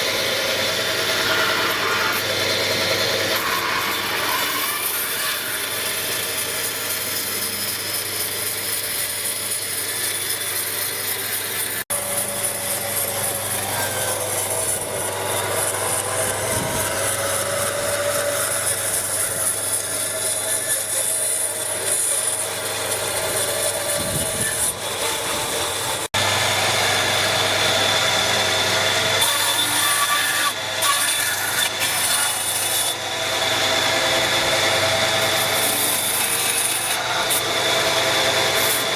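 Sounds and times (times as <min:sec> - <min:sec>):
tools rasping and sawing wood: 0:00.0 - 0:38.9.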